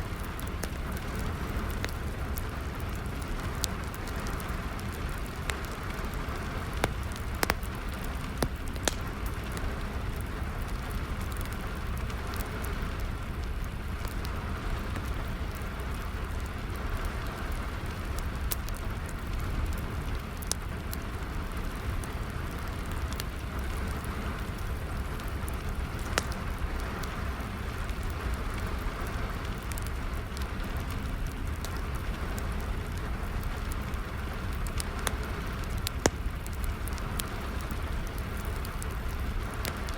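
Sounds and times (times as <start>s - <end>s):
fire crackling and popping: 0.0s - 39.9s
rain falling: 0.0s - 39.9s.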